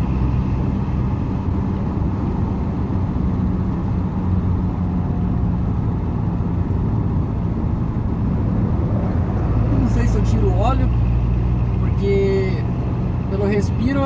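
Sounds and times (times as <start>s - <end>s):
diesel engine drone inside cab: 0.0s - 14.0s.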